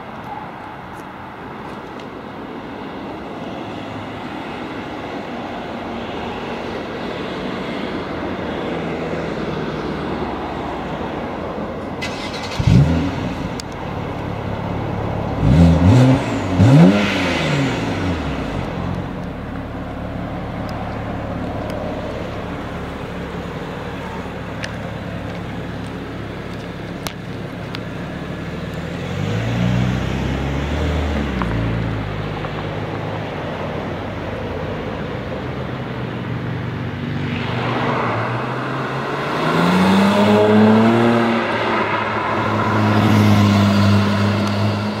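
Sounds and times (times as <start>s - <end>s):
car engine idling and accelerating: 0.0s - 45.0s.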